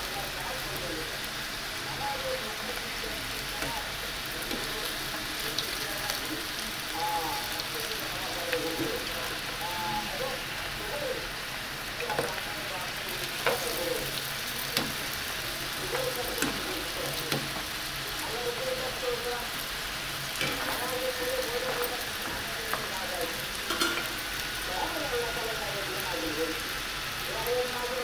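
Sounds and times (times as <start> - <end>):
pastries frying in hot oil: 0.0 - 28.0.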